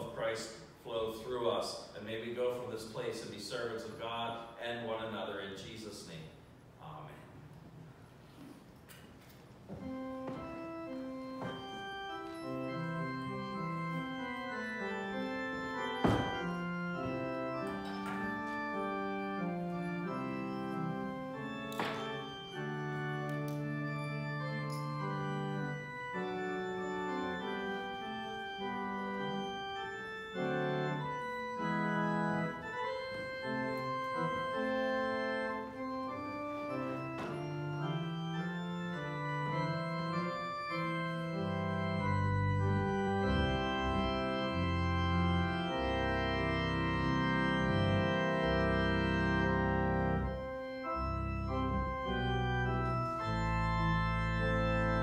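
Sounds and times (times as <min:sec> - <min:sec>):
organ playing sustained chords: 0:00.0 - 0:07.1, 0:09.7 - 0:55.0
deep organ bass notes: 0:09.8 - 0:55.0.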